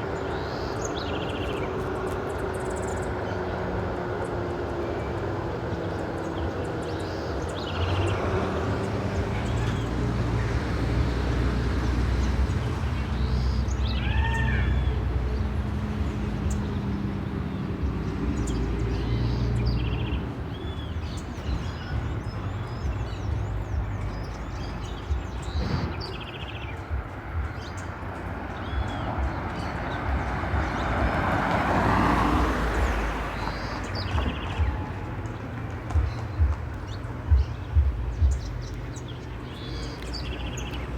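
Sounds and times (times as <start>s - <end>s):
small birds chirping: 0.0s - 40.9s
vehicle engines rumbling: 0.0s - 40.9s
vehicle passing: 0.1s - 40.9s.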